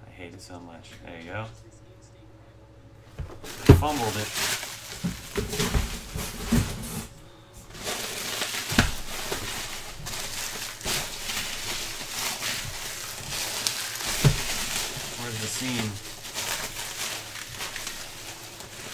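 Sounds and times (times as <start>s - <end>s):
bubble wrap crinkling: 3.2s - 18.9s.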